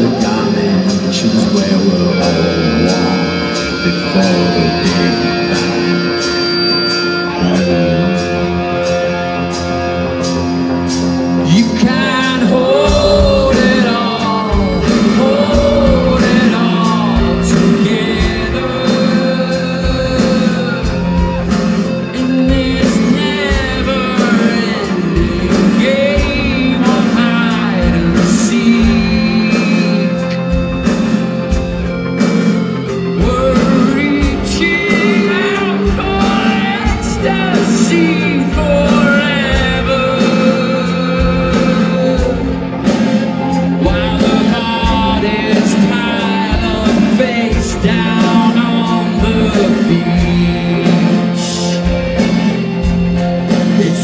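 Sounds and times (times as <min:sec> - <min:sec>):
man singing: 0:00.0 - 0:10.2, 0:10.8 - 0:54.0
sustained keyboard chords: 0:00.0 - 0:54.0.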